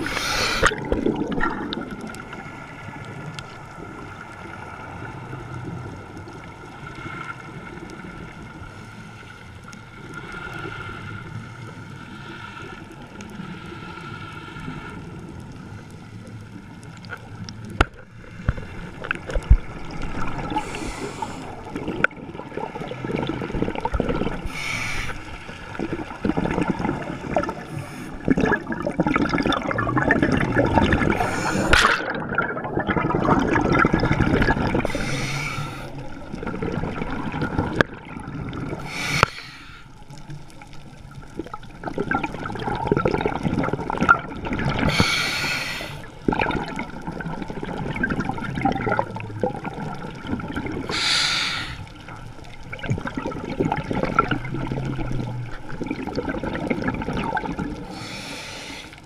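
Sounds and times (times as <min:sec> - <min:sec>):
faint steady hum: 0:00.0 - 0:59.0
regulator bubbles gurgling underwater: 0:00.0 - 0:59.0.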